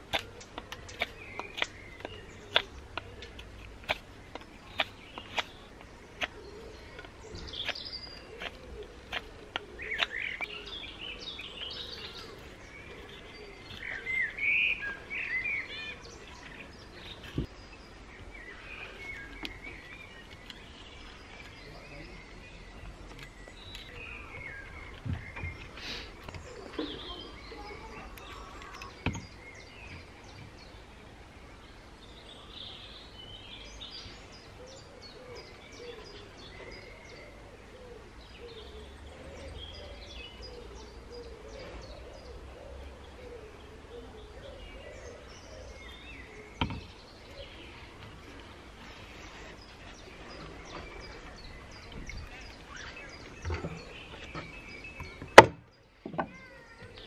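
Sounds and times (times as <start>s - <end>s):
birds chirping: 0.0s - 57.0s
low outdoor hush: 0.0s - 57.0s.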